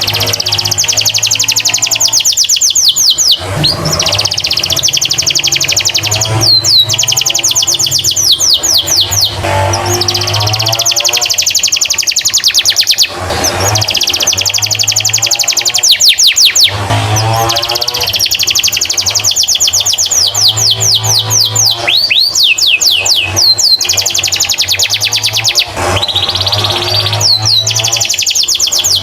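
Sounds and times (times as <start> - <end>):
canary singing trills: 0.0 - 29.0.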